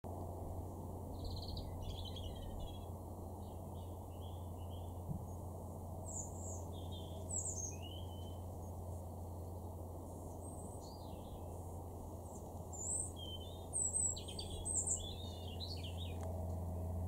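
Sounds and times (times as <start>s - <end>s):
low background noise: 0.1s - 17.0s
songbirds chirping and singing: 0.6s - 16.3s.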